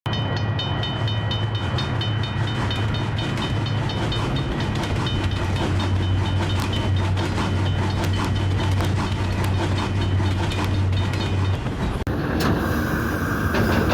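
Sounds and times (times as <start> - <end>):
train low hum: 0.0 - 13.9
train wheels clicking over rails: 0.2 - 13.9.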